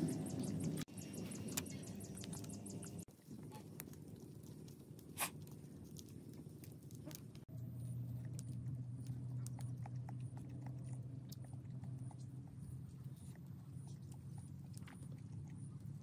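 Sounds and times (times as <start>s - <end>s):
steady low hum: 0.0s - 16.0s
chewing with mouth clicks: 1.5s - 16.0s.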